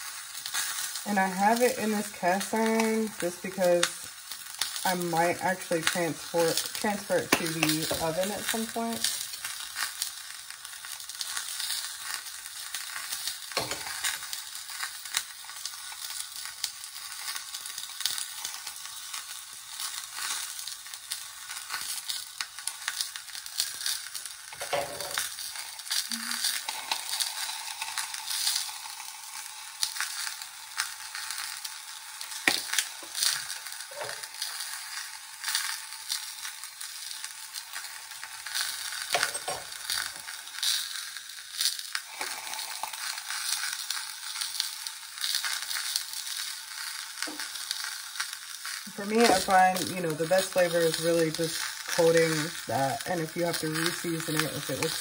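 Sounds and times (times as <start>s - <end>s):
fish frying in a skillet: 0.0s - 55.0s.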